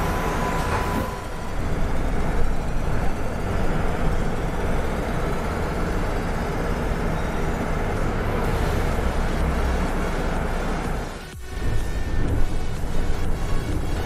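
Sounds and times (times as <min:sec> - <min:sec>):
bus engine rumble and road noise: 0:00.0 - 0:14.0
faint whine: 0:00.0 - 0:14.0.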